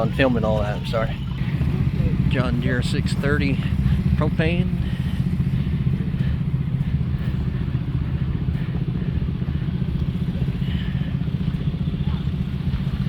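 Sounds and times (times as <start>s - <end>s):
engine running with pulsing beat: 0.0s - 13.0s.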